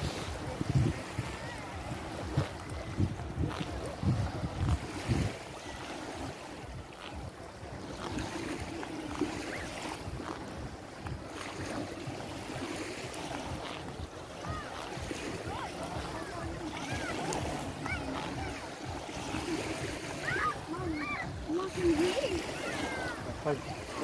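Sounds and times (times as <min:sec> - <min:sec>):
faint voices: 0:00.0 - 0:24.0
waves lapping on sandy shore: 0:00.0 - 0:24.0
wind buffeting microphone: 0:00.0 - 0:24.0.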